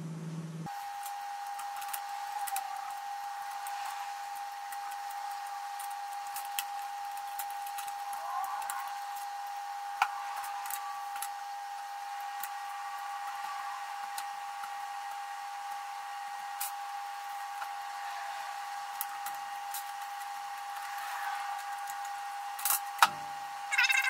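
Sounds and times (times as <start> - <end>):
high-pitched whine: 0.0 - 24.0.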